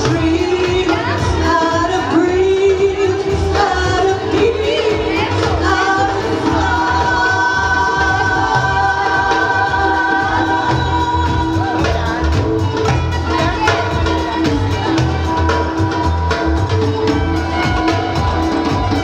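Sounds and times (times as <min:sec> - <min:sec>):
woman singing into a microphone: 0:00.0 - 0:19.0.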